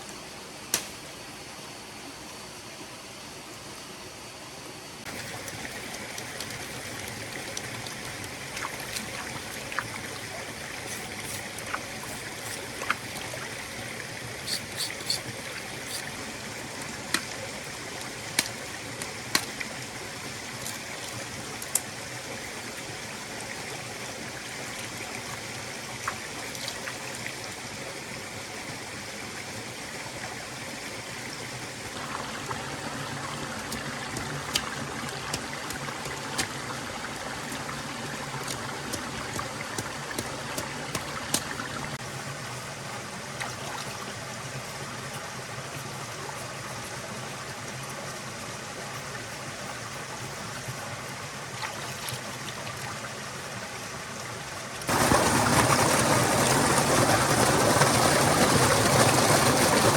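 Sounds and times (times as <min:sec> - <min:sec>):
stream water flowing: 0:01.7 - 0:59.9.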